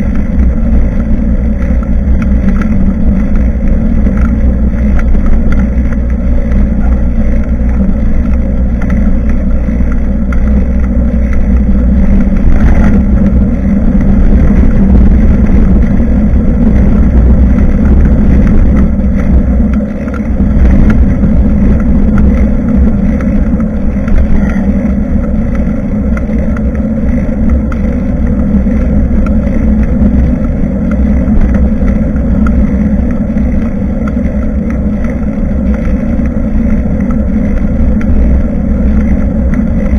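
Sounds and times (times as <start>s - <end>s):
road rumble from bike: 0.0s - 39.9s
wind buffeting microphone: 0.0s - 39.9s.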